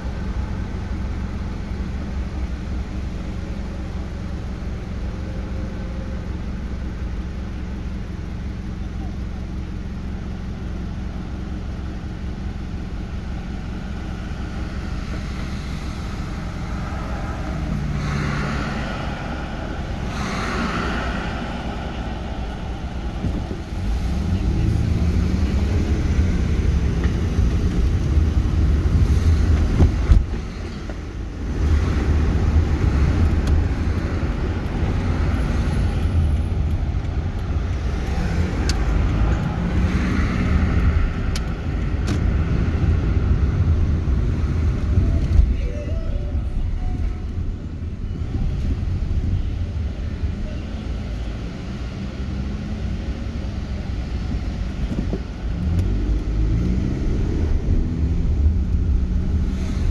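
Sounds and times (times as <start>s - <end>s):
car engine running: 0.0s - 59.9s
road rumble: 0.0s - 59.9s.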